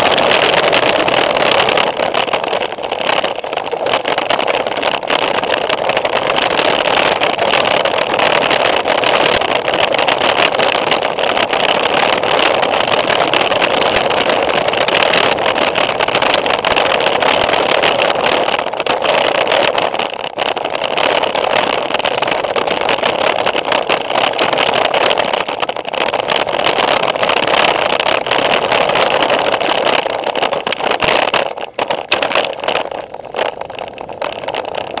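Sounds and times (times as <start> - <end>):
bike rolling on smooth pavement: 0.0 - 35.0
mountain bike rattling over rocks: 0.0 - 35.0.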